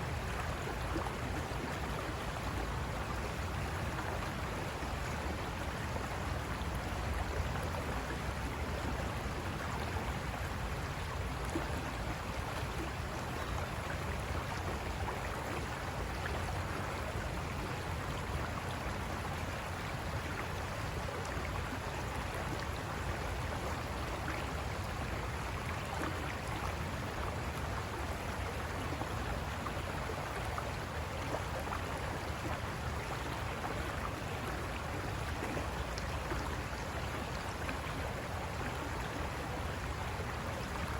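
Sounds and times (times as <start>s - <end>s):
river water over rocks: 0.0s - 40.9s.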